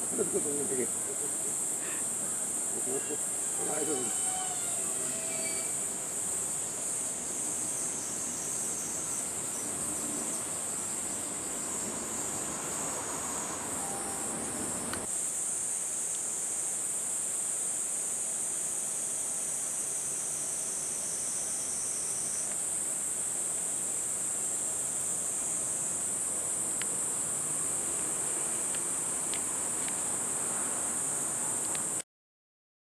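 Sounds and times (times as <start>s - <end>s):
high-pitched insect chorus: 0.0s - 32.0s
low background hiss: 0.0s - 32.0s.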